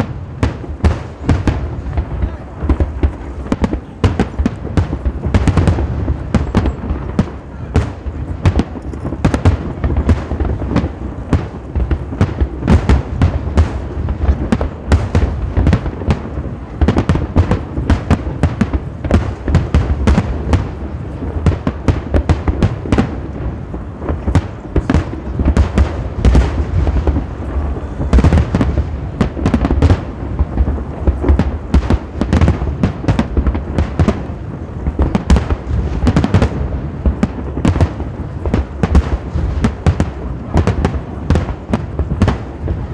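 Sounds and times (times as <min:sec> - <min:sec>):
deep fireworks booms: 0:00.0 - 0:42.9
fireworks bursting: 0:00.0 - 0:42.9.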